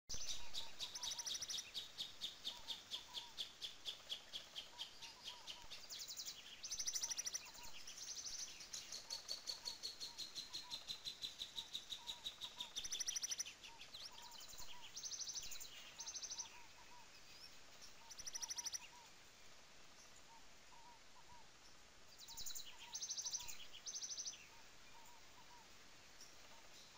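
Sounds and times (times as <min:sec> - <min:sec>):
songbird trills: 0:00.1 - 0:19.2, 0:19.8 - 0:26.9.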